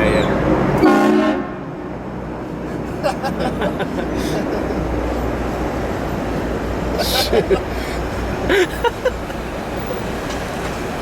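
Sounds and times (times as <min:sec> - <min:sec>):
vehicle engine rumble: 0:01.6 - 0:11.0.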